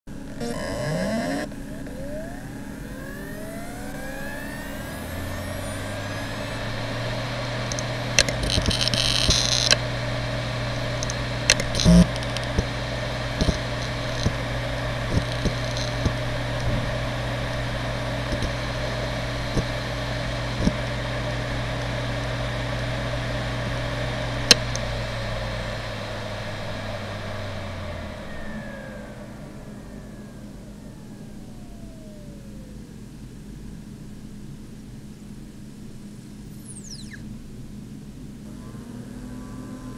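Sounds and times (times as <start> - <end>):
hard drive hum: 0.1 - 39.9
hard drive whine: 0.1 - 39.9.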